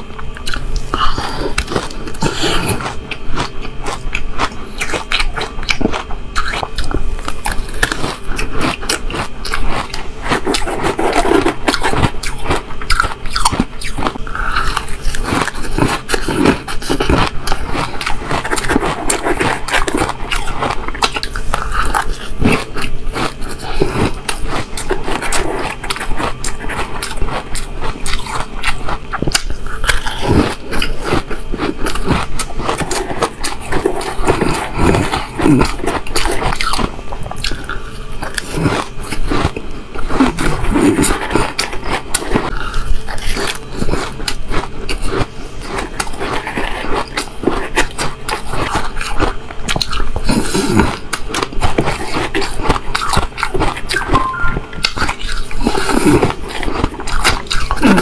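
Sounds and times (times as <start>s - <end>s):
chewing crunchy ice: 0.0s - 58.0s.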